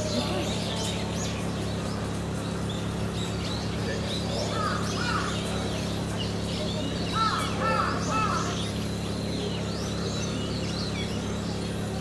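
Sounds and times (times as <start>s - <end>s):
bird call notes: 0.0s - 12.0s
small birds chirping: 0.0s - 12.0s.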